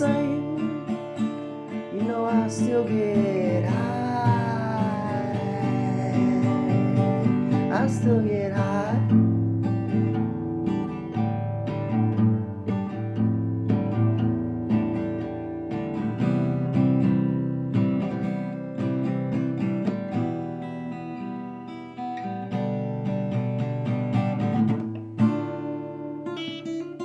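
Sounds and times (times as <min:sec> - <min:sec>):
acoustic guitar strummed and picked: 0:00.0 - 0:27.0.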